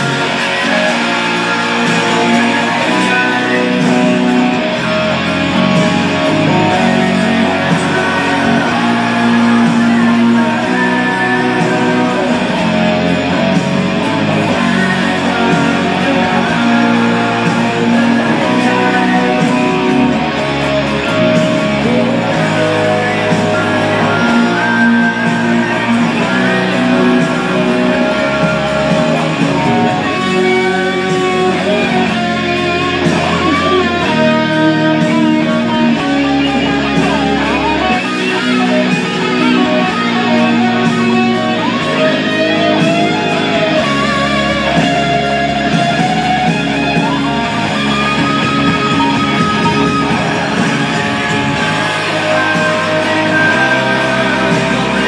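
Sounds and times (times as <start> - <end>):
bass line: 0.0 - 55.0
electric guitar melody: 0.0 - 55.0.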